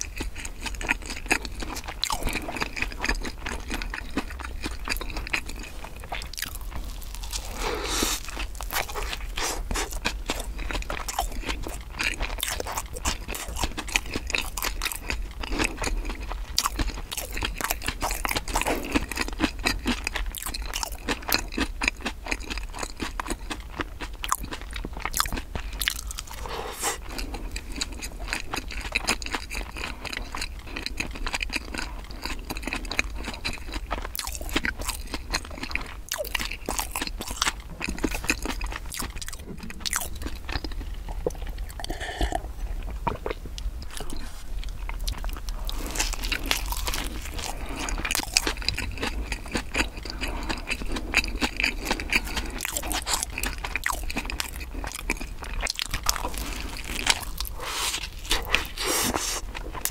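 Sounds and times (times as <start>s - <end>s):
chewing crispy bread: 0.0s - 59.9s
faint low hum: 0.0s - 59.9s.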